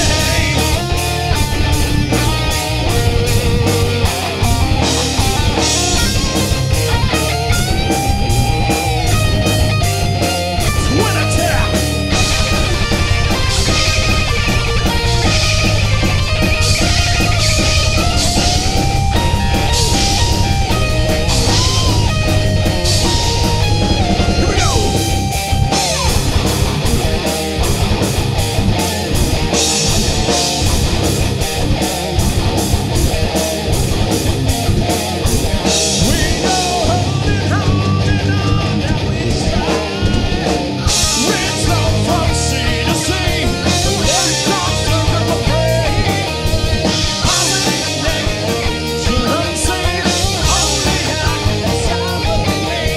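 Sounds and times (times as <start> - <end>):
distorted electric guitars: 0.0 - 52.9
fast dense drumming: 0.0 - 52.9
lead guitar with pitch bends: 0.0 - 52.9.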